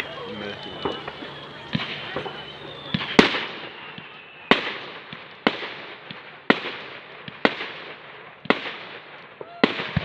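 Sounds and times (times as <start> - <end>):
firework shells bursting: 0.6 - 10.0.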